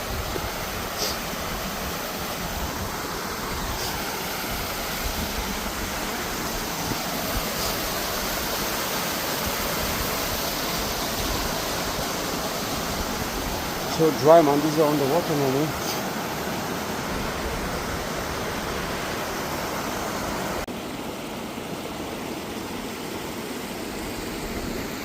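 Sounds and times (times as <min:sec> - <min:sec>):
waterfall rushing: 0:00.0 - 0:20.7.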